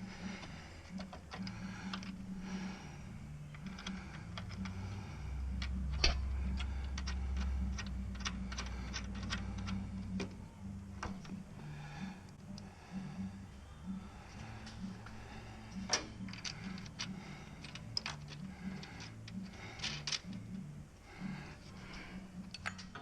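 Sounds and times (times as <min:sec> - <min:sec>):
low rumble: 0:00.0 - 0:22.8.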